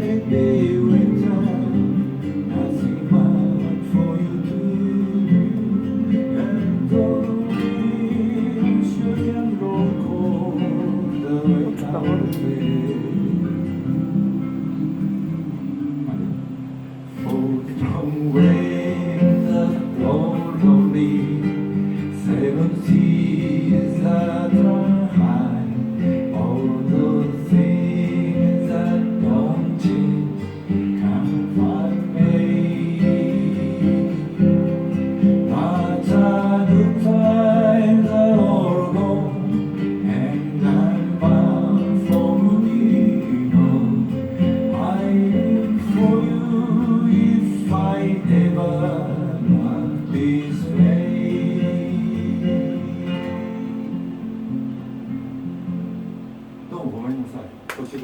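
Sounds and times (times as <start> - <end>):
acoustic guitar strumming: 0.0 - 57.7.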